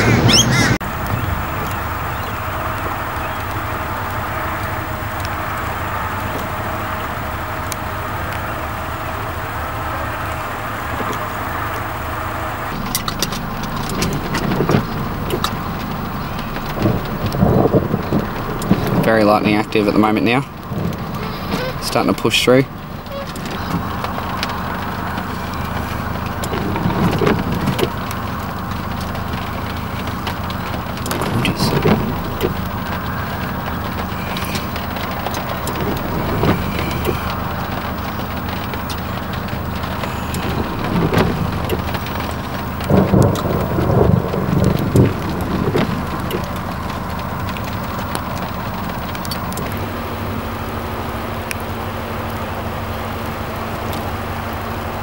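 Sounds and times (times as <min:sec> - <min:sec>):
low hum: 0:00.0 - 0:55.0
thunder rumbling: 0:00.0 - 0:55.0
wind: 0:00.0 - 0:55.0.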